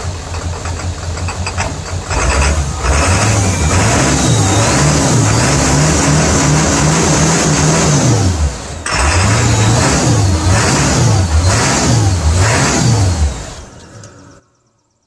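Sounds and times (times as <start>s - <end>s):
diesel engine revving: 0.0s - 14.4s.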